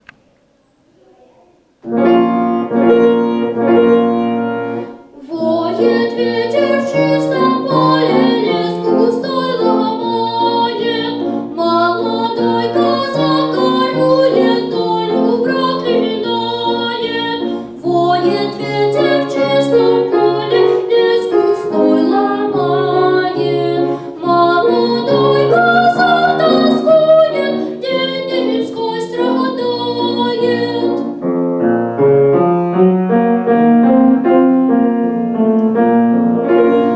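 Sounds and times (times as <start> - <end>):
solo keyboard piece: 1.6 - 36.9.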